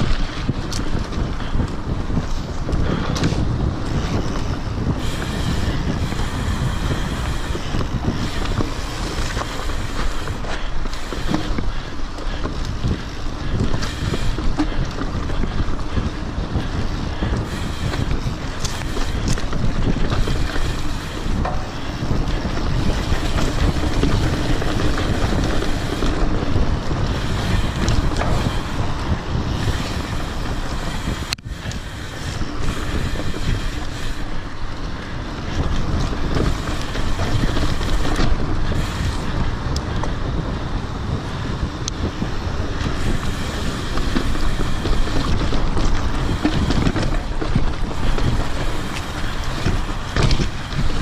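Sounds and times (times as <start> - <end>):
bike tyres rumbling and rattling: 0.0 - 51.0
wind buffeting microphone: 0.0 - 51.0.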